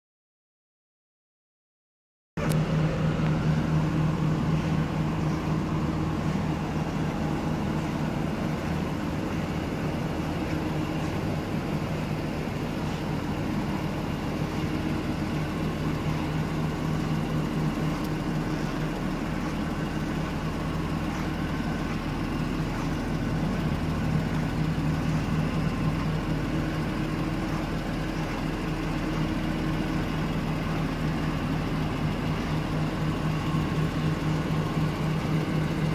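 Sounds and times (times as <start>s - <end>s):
car engine idling: 2.4s - 35.9s.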